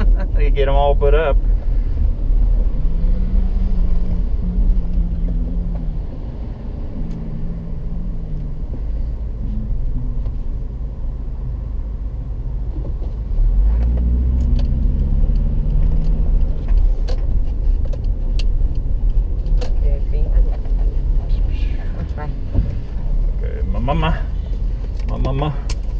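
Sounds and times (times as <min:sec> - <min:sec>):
car engine and road rumble: 0:00.0 - 0:25.9.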